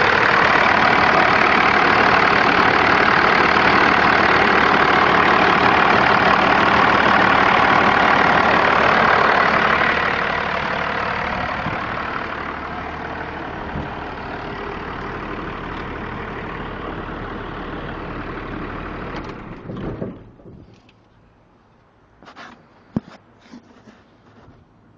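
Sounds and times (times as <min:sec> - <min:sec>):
truck engine running: 0:00.0 - 0:22.1.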